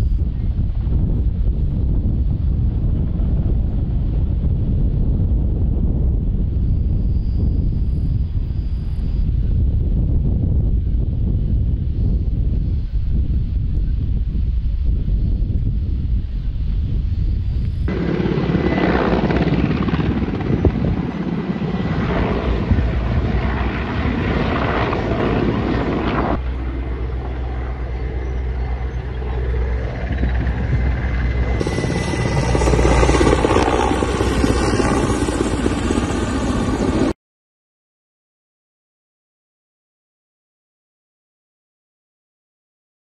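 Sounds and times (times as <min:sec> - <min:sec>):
helicopter rotors droning: 0:00.0 - 0:37.2.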